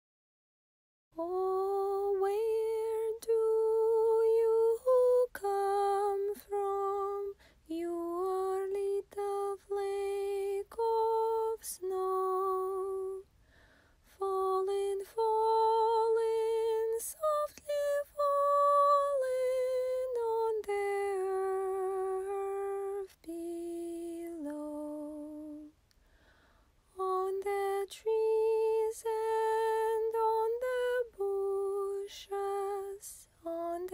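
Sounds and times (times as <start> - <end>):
woman singing unaccompanied: 1.2 - 13.3, 14.1 - 25.8, 26.9 - 33.9.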